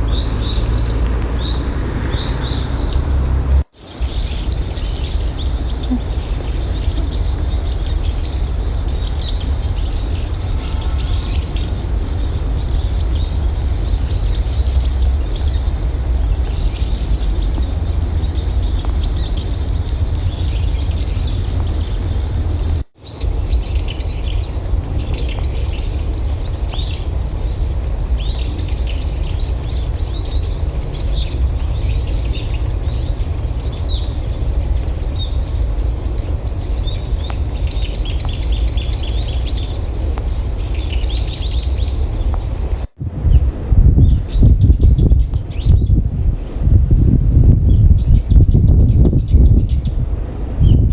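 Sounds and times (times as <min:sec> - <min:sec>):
songbirds chirping: 0:00.0 - 0:46.0
wind blowing on microphone: 0:00.0 - 0:50.9.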